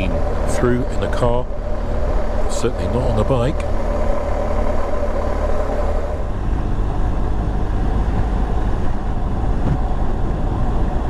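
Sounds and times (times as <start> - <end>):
motorcycle engine cruising: 0.0 - 11.0
riding wind and road noise: 0.0 - 11.0.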